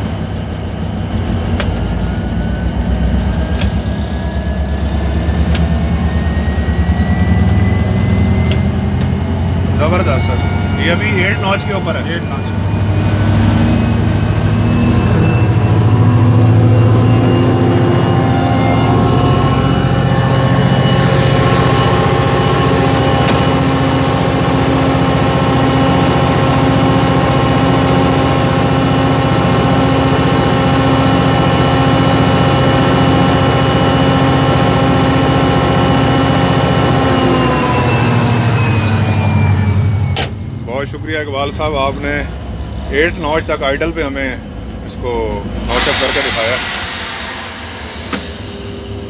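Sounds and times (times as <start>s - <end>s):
diesel locomotive engine running: 0.0s - 49.0s.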